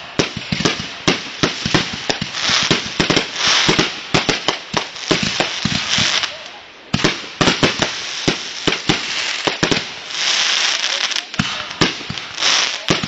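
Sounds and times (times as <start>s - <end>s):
fireworks hissing spray: 0.0s - 13.0s
fireworks popping and banging: 0.0s - 13.0s.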